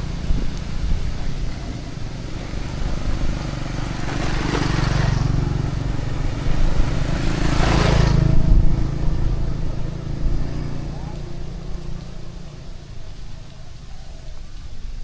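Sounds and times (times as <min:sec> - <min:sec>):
vehicles passing: 0:00.0 - 0:15.0.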